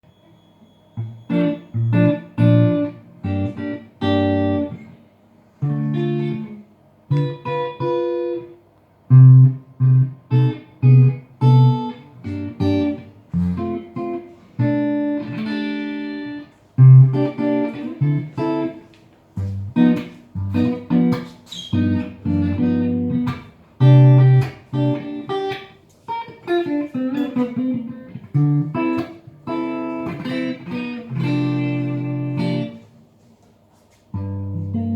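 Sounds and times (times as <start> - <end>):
electric guitar chords: 1.0 - 32.9, 34.1 - 34.9.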